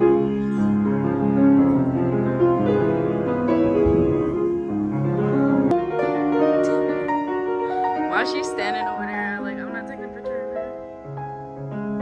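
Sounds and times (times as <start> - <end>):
piano playing slow melody: 0.0 - 12.0.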